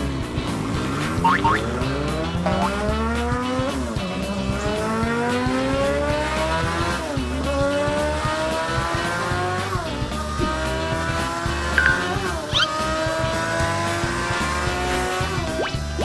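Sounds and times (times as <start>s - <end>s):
background music with steady beat: 0.0s - 16.0s
motorbike engine revving: 0.0s - 16.0s.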